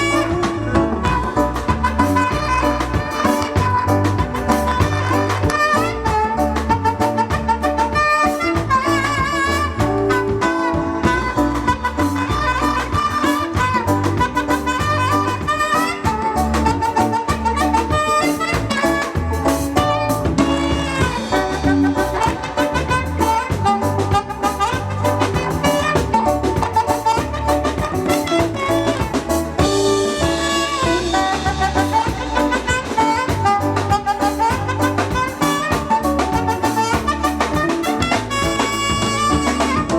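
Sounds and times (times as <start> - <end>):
bass: 0.0 - 39.9
drums: 0.0 - 39.9
horns playing melody: 0.0 - 39.9
live band playing: 0.0 - 39.9.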